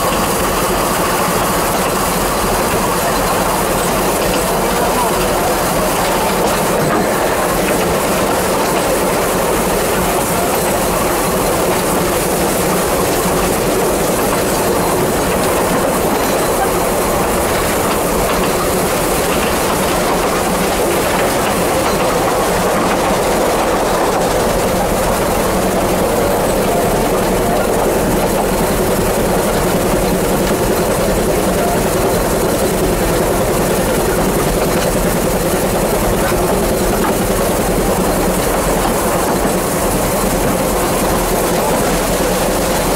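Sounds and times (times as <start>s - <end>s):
rattle of moving train: 0.0s - 42.9s
train wheels on rails: 0.0s - 42.9s.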